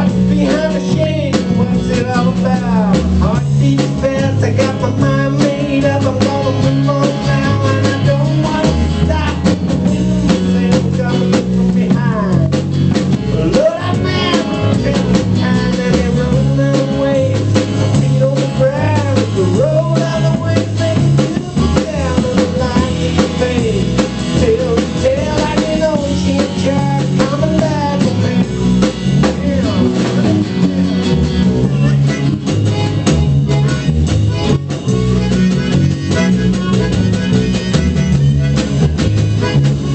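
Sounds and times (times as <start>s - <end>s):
music with drums and bass: 0.0s - 39.9s.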